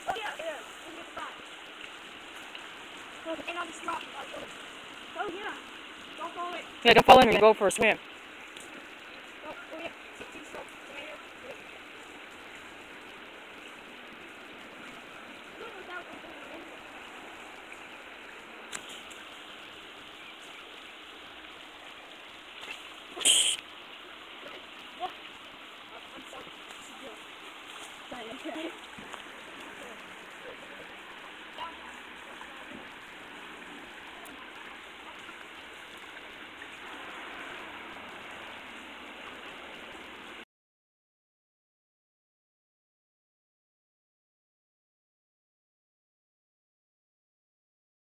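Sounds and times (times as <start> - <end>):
creek water running over rocks: 0.0 - 40.4.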